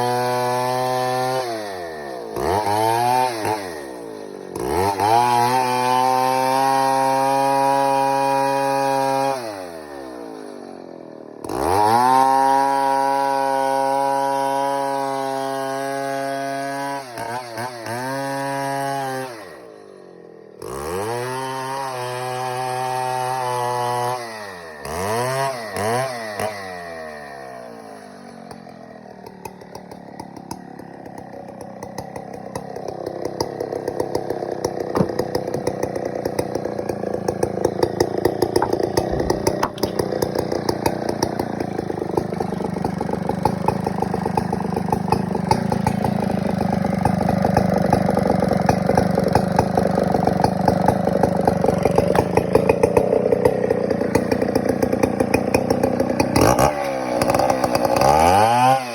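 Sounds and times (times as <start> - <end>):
two-stroke chainsaw engine revving: 0.0 - 58.9.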